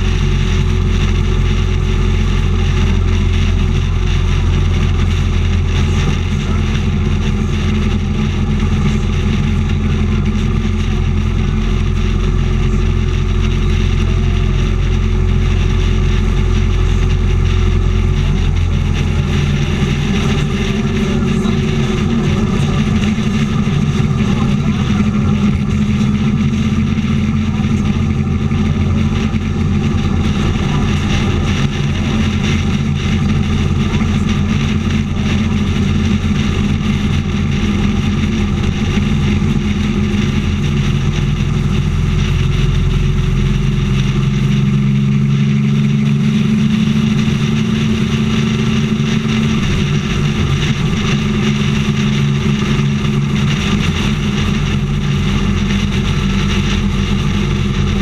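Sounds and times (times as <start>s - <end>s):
motorcycle engine cruising: 0.0s - 58.0s
wind and road rush: 0.0s - 58.0s.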